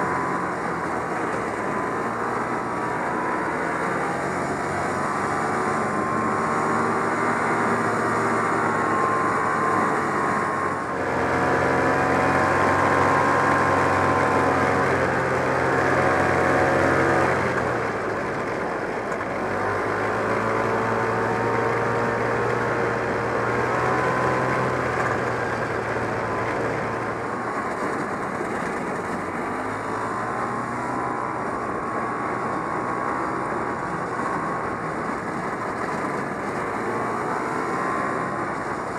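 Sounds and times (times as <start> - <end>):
two-stroke snowmobile engine running: 0.0 - 38.9.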